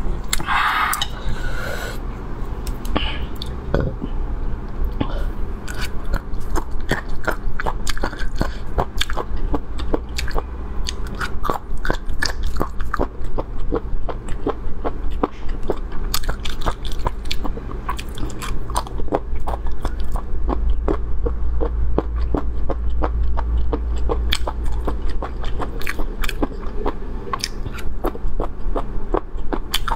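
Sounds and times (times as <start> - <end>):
low hum: 0.0 - 29.9.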